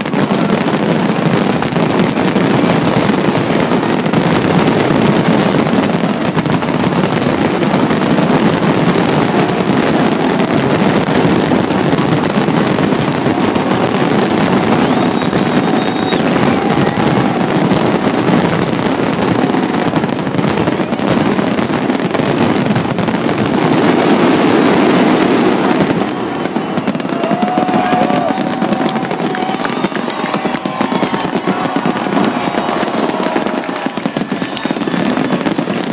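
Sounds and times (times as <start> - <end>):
fireworks bursts and crackling: 0.0 - 35.9.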